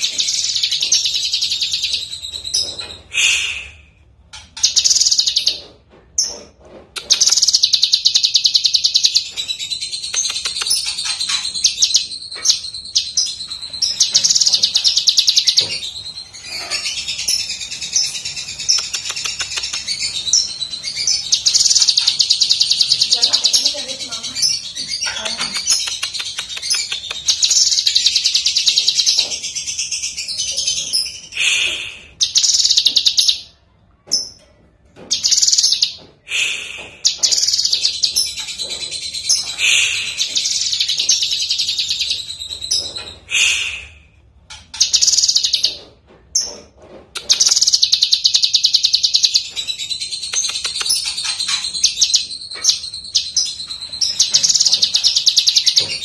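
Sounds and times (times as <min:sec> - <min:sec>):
bird singing chattering trills: 0:00.0 - 0:03.1, 0:04.4 - 0:06.4, 0:07.0 - 0:33.6, 0:35.1 - 0:36.1, 0:37.0 - 0:43.8, 0:44.5 - 0:45.8, 0:47.2 - 0:56.0.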